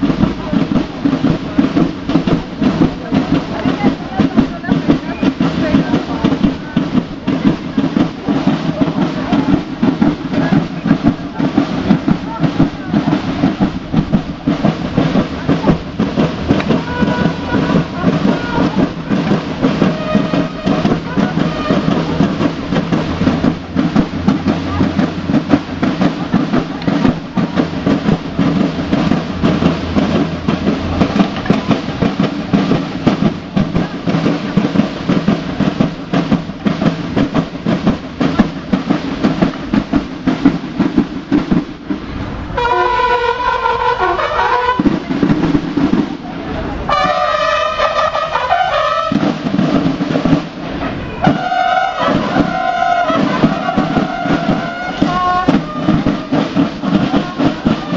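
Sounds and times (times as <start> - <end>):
outdoor crowd din: 0.0 - 57.9.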